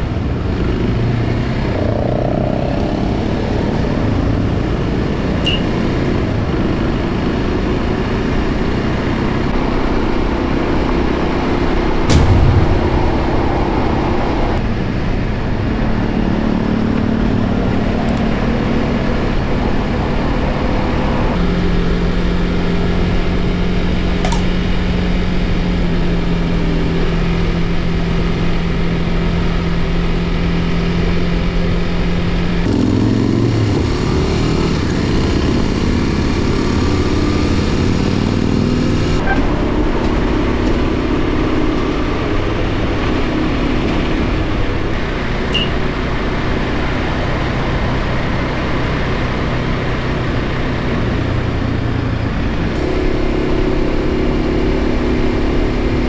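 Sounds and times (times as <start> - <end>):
motorcycle engine cruising: 0.0 - 12.4, 13.4 - 56.0
wind and road noise: 0.0 - 56.0.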